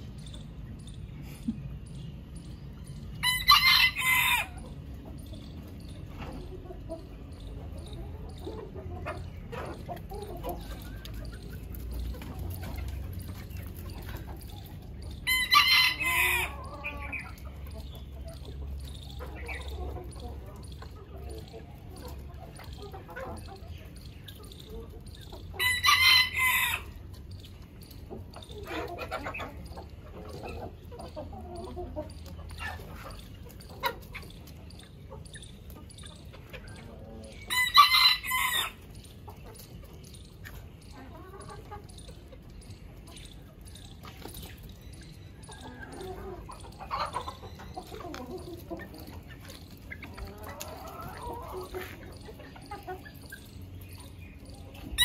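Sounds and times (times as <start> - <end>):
hens clucking softly: 0.0 - 55.0.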